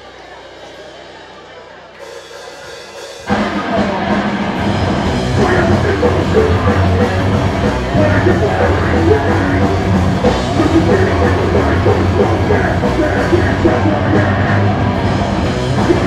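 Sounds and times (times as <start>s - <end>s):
live punk band playing: 0.0s - 16.0s.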